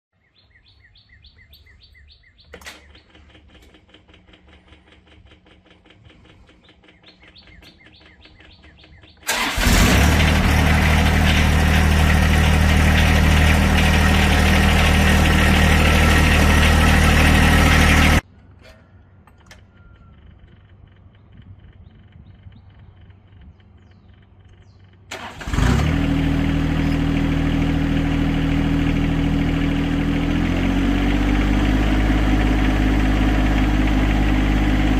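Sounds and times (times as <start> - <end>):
tractor diesel engine running: 0.8 - 34.9.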